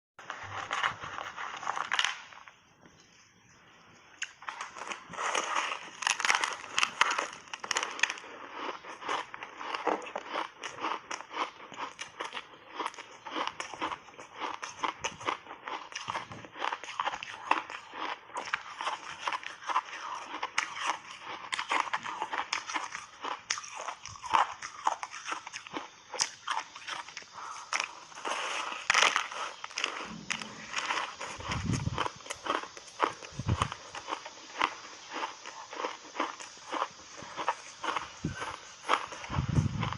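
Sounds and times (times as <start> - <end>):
ice being chewed: 0.2 - 2.6, 3.4 - 39.9.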